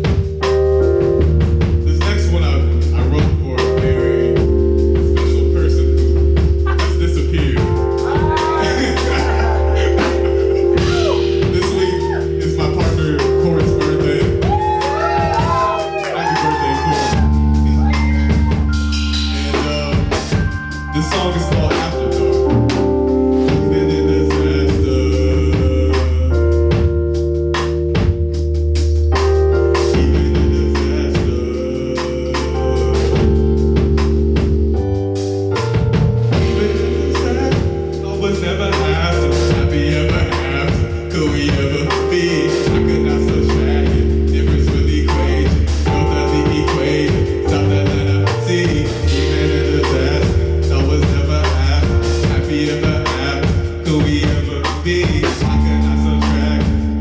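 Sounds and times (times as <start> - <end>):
drum kit hits: 0.0 - 57.0
held low bass notes: 0.0 - 57.0
organ-like keyboard chords: 0.0 - 57.0.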